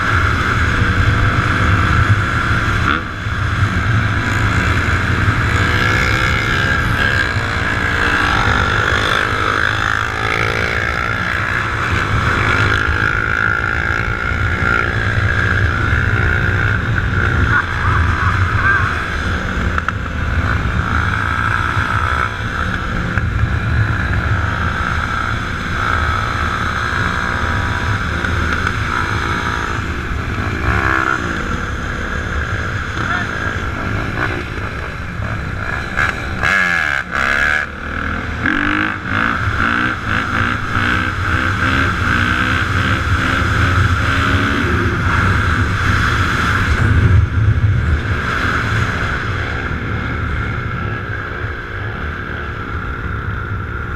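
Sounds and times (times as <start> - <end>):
engine revving: 0.0 - 52.5
dirt bike and atv engines: 0.0 - 53.9.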